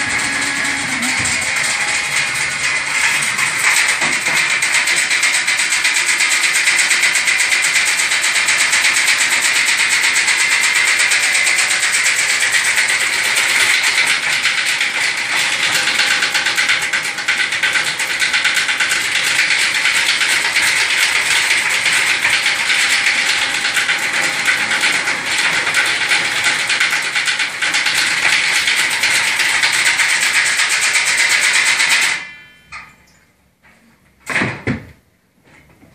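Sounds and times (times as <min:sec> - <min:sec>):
power drill spinning rod in flue: 0:00.0 - 0:32.2.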